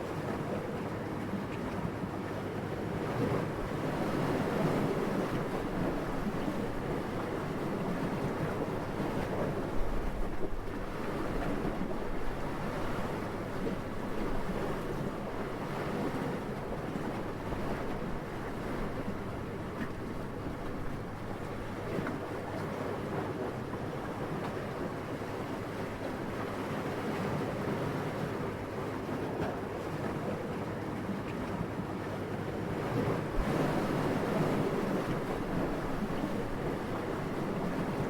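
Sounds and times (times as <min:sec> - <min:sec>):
wind: 0:00.0 - 0:38.0.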